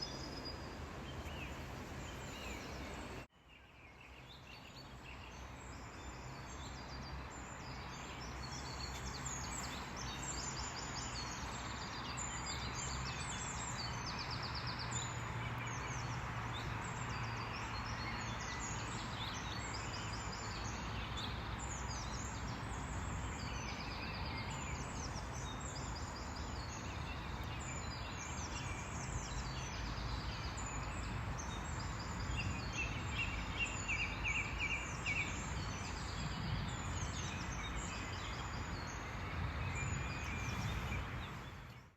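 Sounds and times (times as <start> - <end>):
birds singing and chirping: 6.1 - 41.9.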